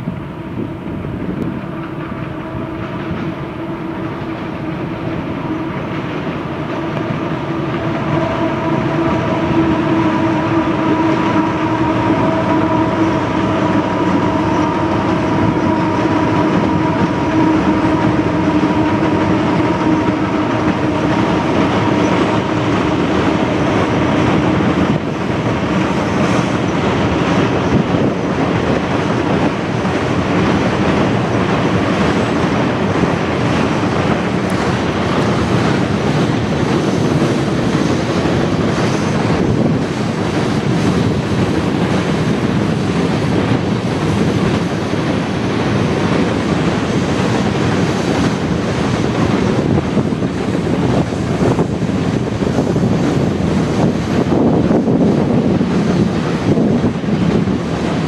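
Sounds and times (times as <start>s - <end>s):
steady humming tones: 0.0s - 58.0s
train rumbling on steel bridge: 0.0s - 58.0s.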